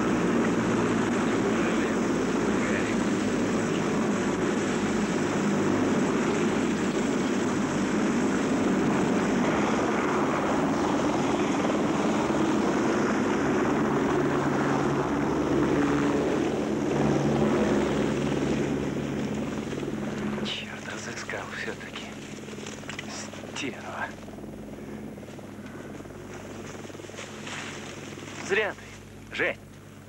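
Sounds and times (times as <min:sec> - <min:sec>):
helicopter flying overhead: 0:00.0 - 0:30.0.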